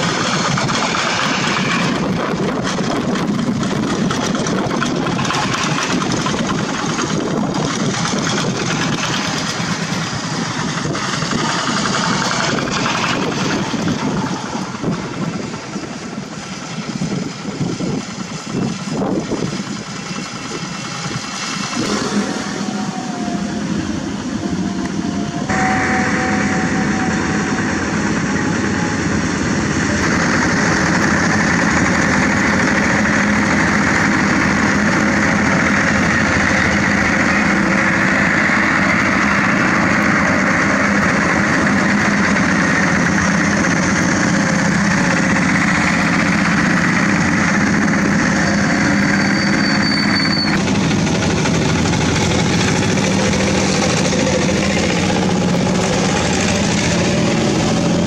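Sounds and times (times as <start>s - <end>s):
diesel engines chugging: 0.0s - 58.0s.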